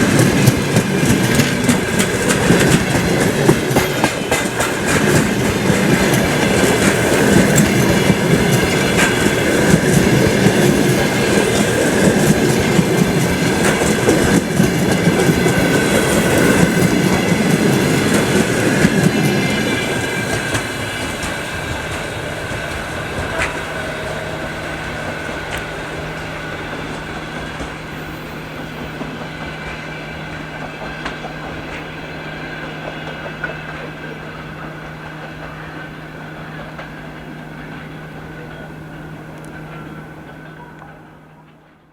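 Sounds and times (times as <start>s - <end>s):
train wheel clicks: 0.0s - 41.7s
diesel locomotive hum: 0.0s - 41.9s.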